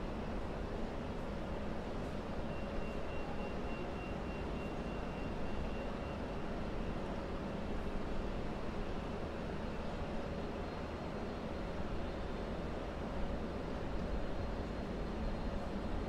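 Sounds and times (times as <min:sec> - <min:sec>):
low rumble of trains and hall: 0:00.0 - 0:16.0.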